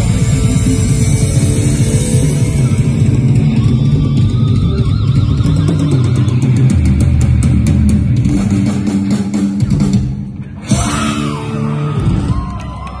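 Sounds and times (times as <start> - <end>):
distorted electric guitars: 0.0 - 13.0
drum kit with cymbal hits: 0.0 - 13.0.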